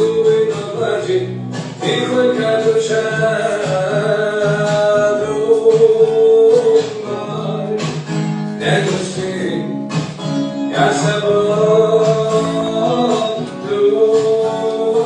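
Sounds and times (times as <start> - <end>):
man singing: 0.0 - 10.0, 10.6 - 15.0
acoustic guitar: 0.0 - 15.0.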